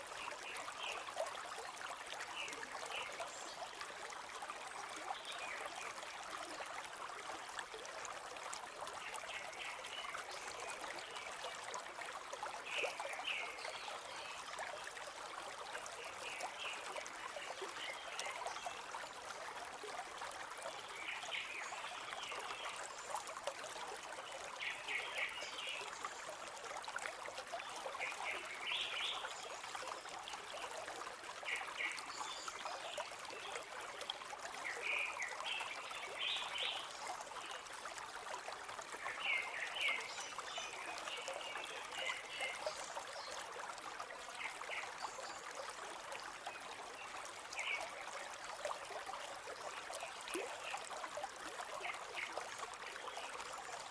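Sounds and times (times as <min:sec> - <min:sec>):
stream flowing and trickling: 0:00.0 - 0:53.9.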